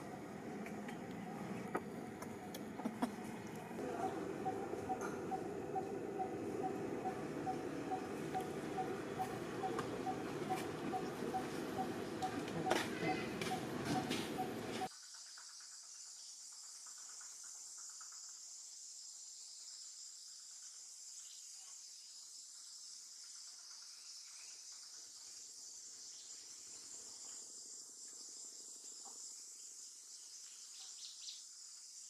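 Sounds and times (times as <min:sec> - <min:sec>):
faint insect chorus: 0:00.0 - 0:32.0.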